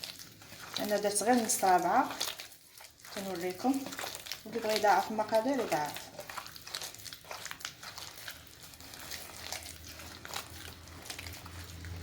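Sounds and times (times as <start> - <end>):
utensils clicking in mixing bowl: 0.0 - 12.0.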